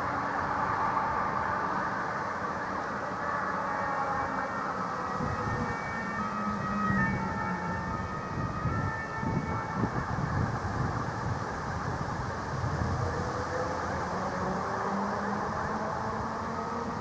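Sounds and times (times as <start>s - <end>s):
fire engine siren: 0.0s - 17.0s
road vehicle rumble: 0.0s - 17.0s.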